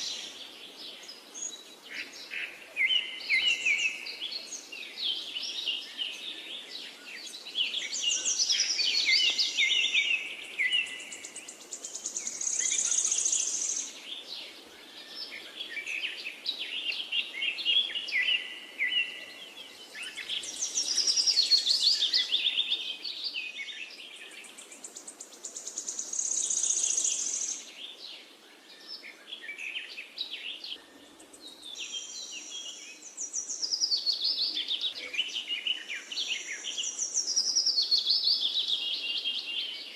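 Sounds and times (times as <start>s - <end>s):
faint background hiss: 0.0s - 39.9s
songbirds singing: 0.0s - 39.9s.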